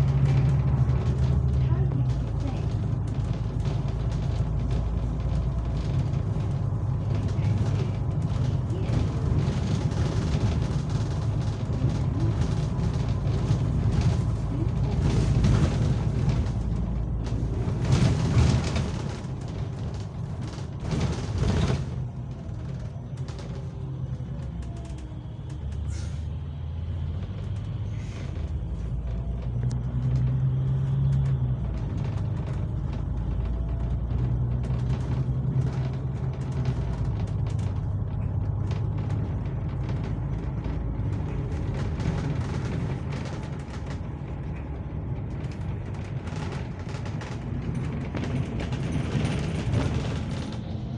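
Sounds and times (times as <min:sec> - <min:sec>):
bus engine and road noise: 0:00.0 - 0:50.9.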